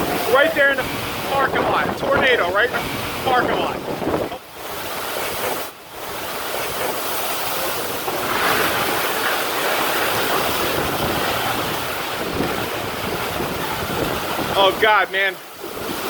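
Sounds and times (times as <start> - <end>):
strong wind on microphone: 0.0 - 6.0, 7.7 - 14.9.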